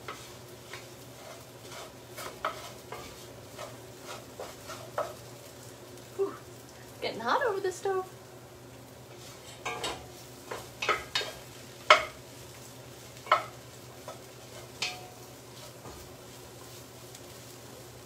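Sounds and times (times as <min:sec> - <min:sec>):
faint sizzle: 0:00.0 - 0:18.0.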